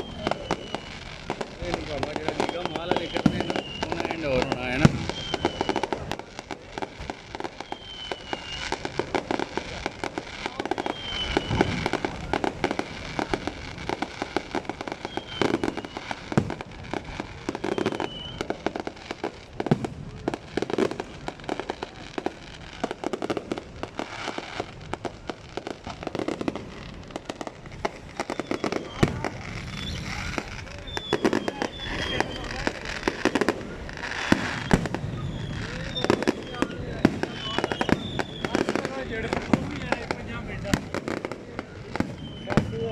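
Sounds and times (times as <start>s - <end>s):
fireworks crackling and banging: 0.0s - 42.9s
fireworks whistling: 0.0s - 42.9s.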